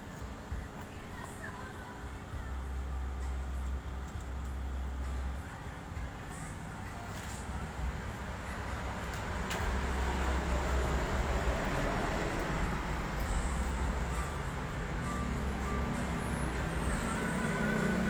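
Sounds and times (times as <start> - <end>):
vehicle rumble with road noise: 0.0 - 18.0.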